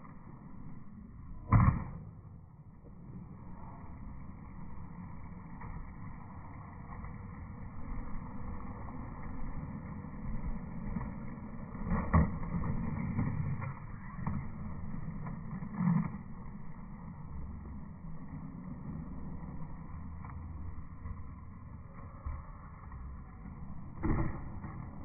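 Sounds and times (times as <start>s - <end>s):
skateboard wheels rolling on concrete: 0.0s - 25.0s
skateboard clacks: 4.9s - 25.0s.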